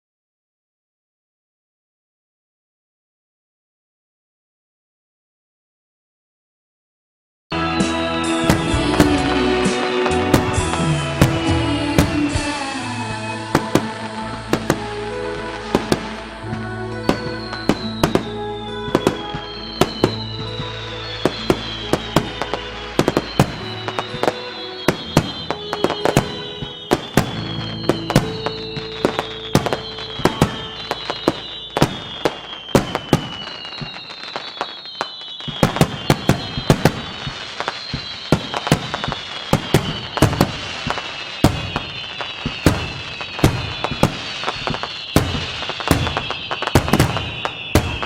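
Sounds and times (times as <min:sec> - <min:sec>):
fireworks bangs and cracks: 0:07.6 - 0:48.0
whistling fireworks shells: 0:07.7 - 0:48.0.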